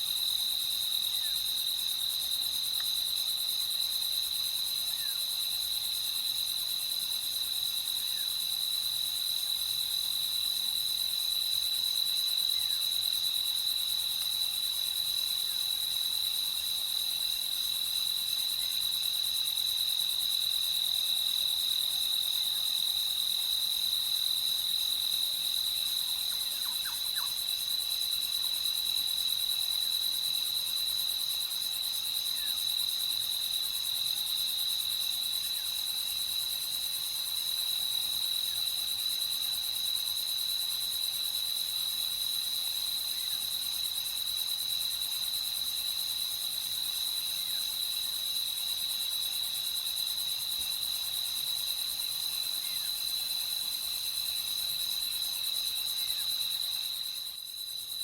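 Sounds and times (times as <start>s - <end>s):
crickets chirping: 0.0s - 58.0s
faint high-pitched insect hiss: 0.0s - 58.0s.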